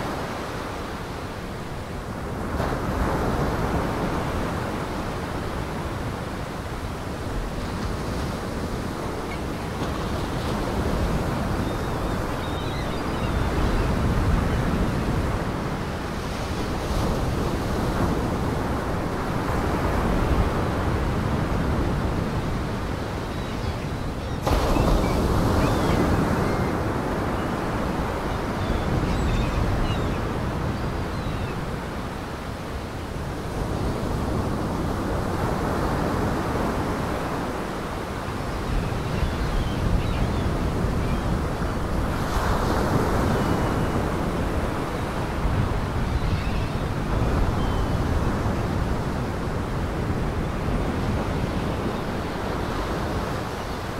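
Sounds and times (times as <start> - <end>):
wind: 0.0 - 53.9.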